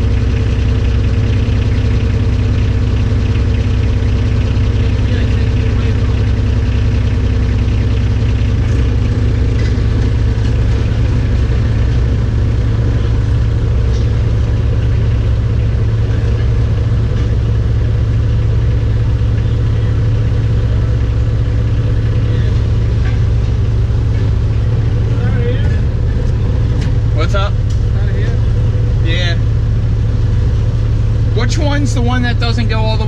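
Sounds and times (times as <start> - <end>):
diesel engine rumbling: 0.0 - 33.0.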